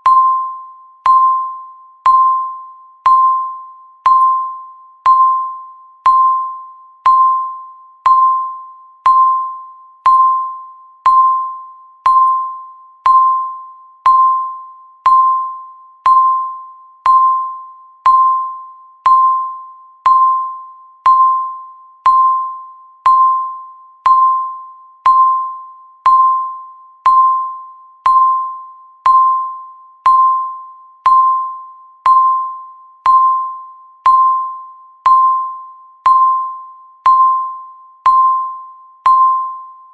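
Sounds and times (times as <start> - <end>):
chime-like timer tick: 0.0 - 39.9.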